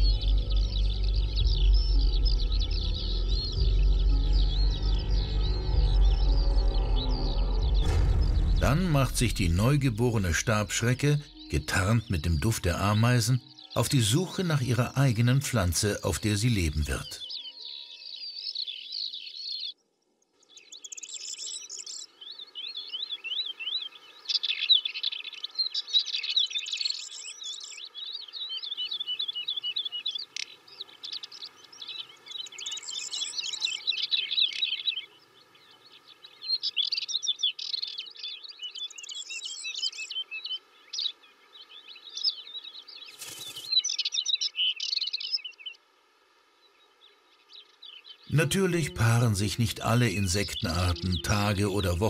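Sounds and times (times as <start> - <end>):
songbirds trilling: 0.0 - 52.0.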